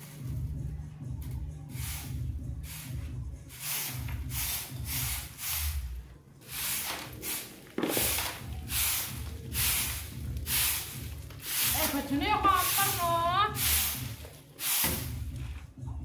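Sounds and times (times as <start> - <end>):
broom sweeping concrete floor: 0.0 - 0.6, 1.6 - 15.8.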